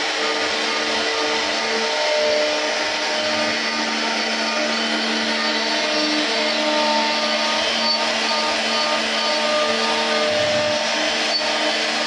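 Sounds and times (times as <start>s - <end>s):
router spindle cutting wood: 0.0s - 12.0s.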